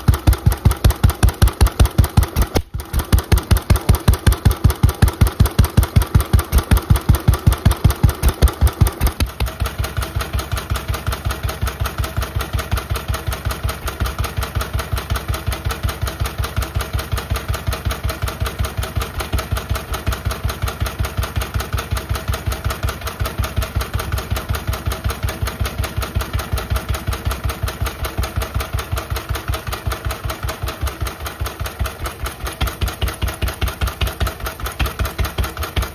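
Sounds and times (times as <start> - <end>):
stationary engine exhaust beating: 0.0 - 35.9.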